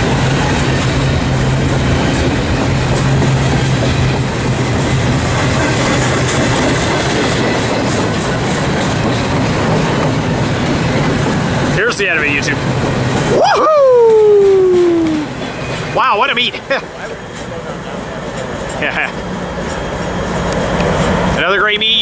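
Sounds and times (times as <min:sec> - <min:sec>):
wheels clicking over rail joints: 0:00.0 - 0:22.0.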